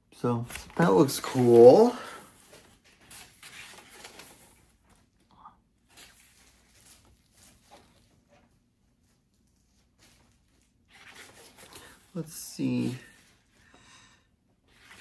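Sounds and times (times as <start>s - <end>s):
book pages rustling: 0.4s - 13.5s, 14.6s - 15.0s.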